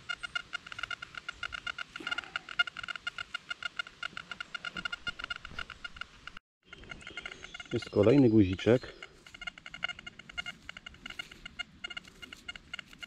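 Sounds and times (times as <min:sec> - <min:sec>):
rapid electronic beeping: 0:00.0 - 0:13.0.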